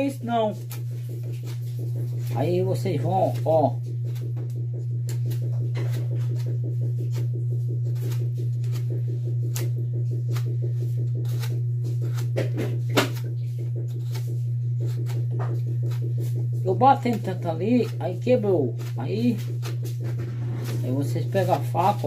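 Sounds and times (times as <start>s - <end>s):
knife scraping wood: 0.0s - 22.0s
steady low hum: 0.0s - 22.0s.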